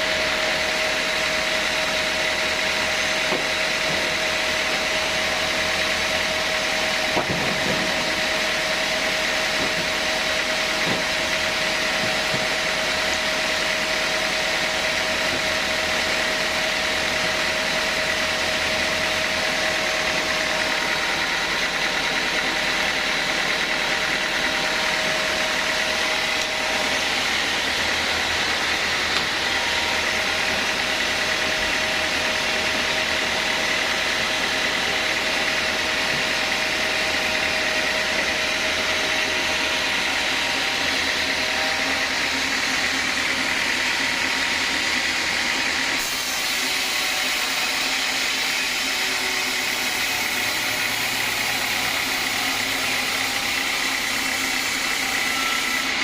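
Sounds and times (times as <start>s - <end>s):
band saw running: 0.0s - 56.0s.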